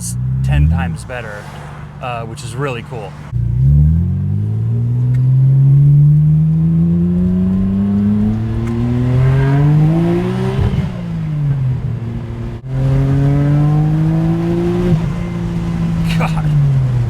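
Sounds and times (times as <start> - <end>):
turbo engine revving: 3.3 - 17.0.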